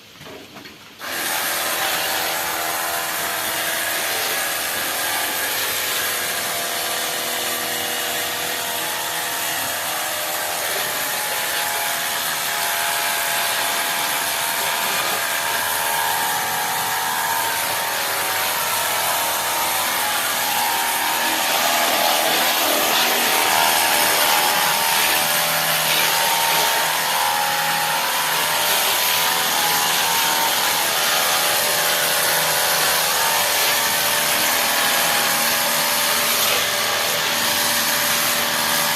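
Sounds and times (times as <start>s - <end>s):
electric pump whining: 1.0s - 38.9s.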